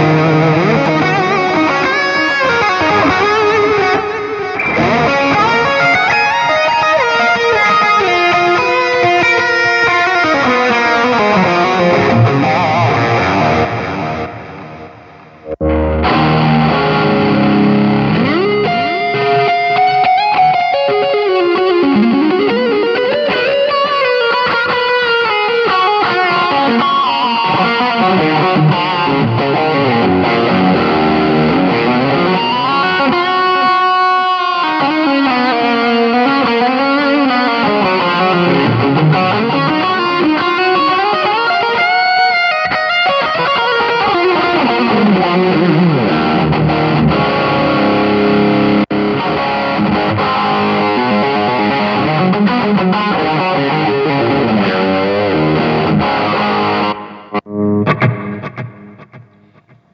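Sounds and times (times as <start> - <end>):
electric guitar lead melody: 0.0 - 59.9.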